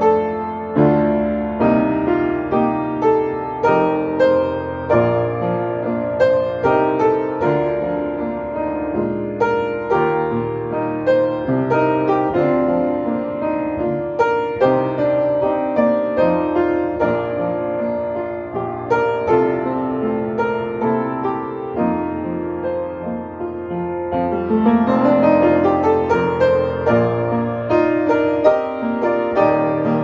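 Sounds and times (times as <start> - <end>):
solo piano hymn: 0.0 - 30.0.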